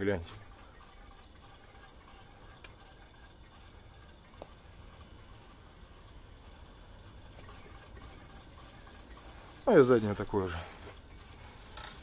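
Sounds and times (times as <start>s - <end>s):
bicycle wheel ticking: 0.0s - 12.0s.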